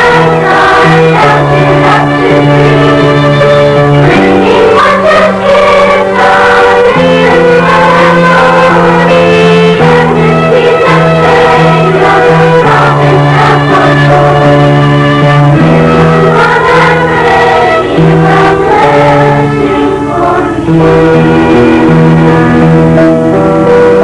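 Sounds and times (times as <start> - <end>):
choir singing: 0.0 - 23.0
instrumental accompaniment: 0.0 - 24.0.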